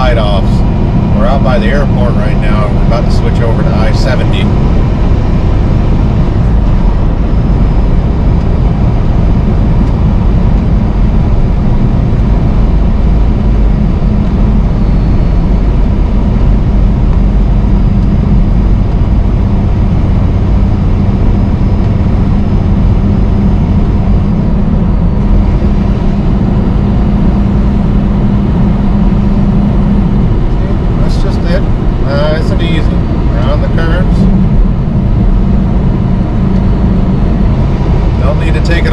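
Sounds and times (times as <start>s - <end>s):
road noise: 0.0s - 38.9s
truck diesel engine drone: 0.0s - 38.9s.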